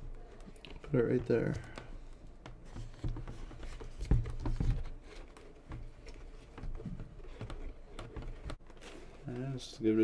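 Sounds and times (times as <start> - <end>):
soft handling thumps: 0.0 - 9.6
rustling: 0.0 - 10.0.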